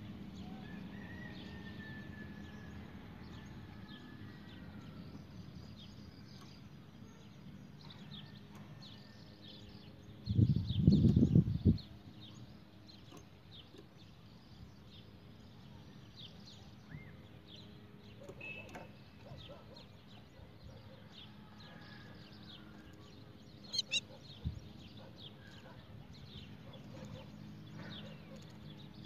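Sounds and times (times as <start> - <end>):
small birds chirping: 4.4 - 29.0.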